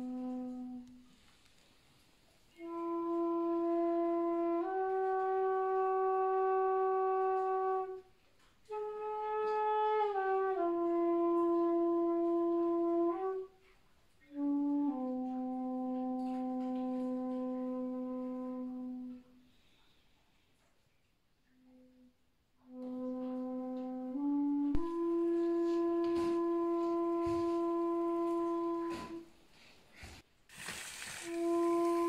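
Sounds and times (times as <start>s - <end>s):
solo wind instrument playing: 0.0s - 1.4s, 2.5s - 19.4s, 22.6s - 29.4s, 30.6s - 32.0s.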